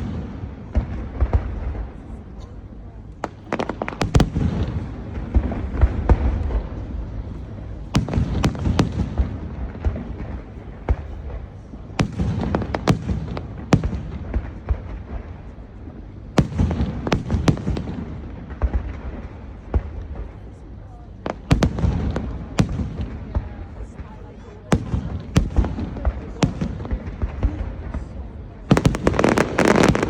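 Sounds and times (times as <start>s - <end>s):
fireworks bangs and cracks: 0.0s - 2.4s, 3.2s - 30.0s
low rumble and crackle: 0.0s - 30.0s.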